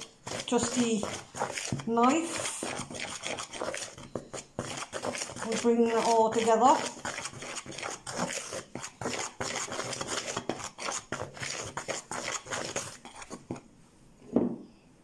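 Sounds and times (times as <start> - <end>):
knife scraping plastic bowl: 0.0 - 13.7.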